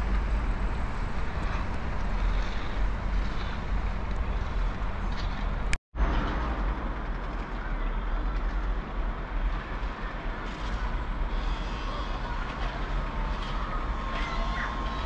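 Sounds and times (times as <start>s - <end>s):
wind gusting on microphone: 0.0s - 12.4s
distant traffic rumble: 0.0s - 15.0s.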